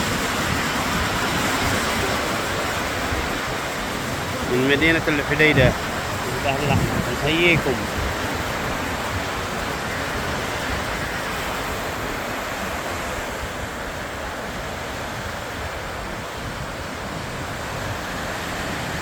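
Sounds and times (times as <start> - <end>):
waves washing onto shore: 0.0 - 19.0
wind rumbling on microphone: 0.0 - 19.0.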